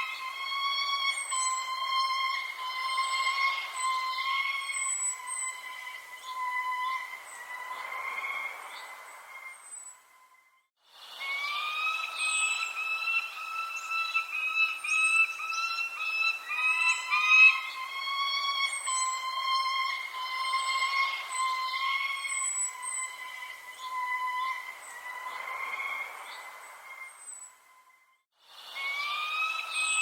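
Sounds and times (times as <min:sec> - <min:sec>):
whistling tone: 0:00.0 - 0:08.5, 0:09.2 - 0:30.0
birds chirping: 0:00.0 - 0:30.0.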